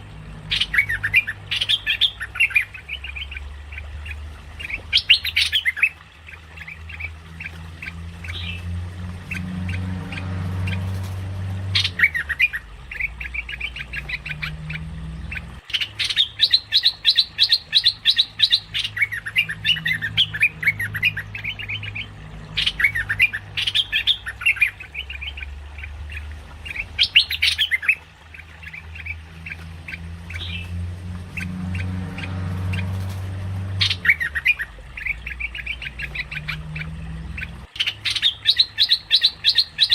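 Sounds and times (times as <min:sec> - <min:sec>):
bulbul chattering calls: 0:00.0 - 0:08.6, 0:09.2 - 0:30.7, 0:31.3 - 0:39.9
steady low hum: 0:00.0 - 0:38.1.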